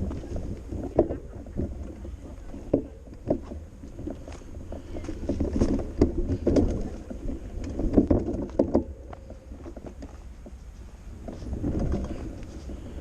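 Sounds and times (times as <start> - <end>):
bicycle rattling and knocking: 0.0 - 13.0
tyres rumbling: 0.0 - 13.0
wind: 0.0 - 13.0.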